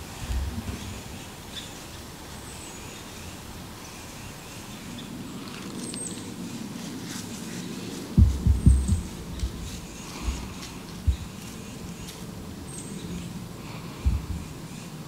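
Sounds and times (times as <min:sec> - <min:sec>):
steady outdoor hiss: 0:00.0 - 0:15.0
small birds chirping: 0:00.7 - 0:15.0.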